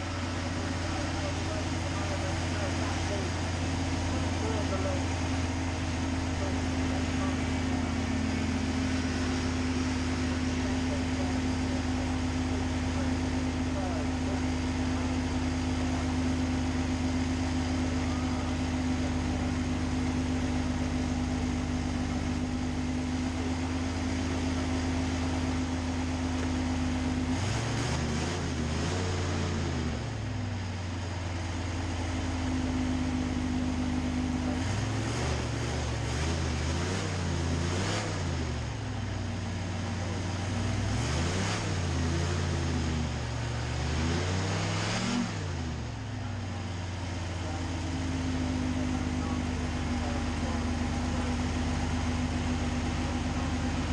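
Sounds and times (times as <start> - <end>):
hovercraft engine revving: 0.0 - 53.9.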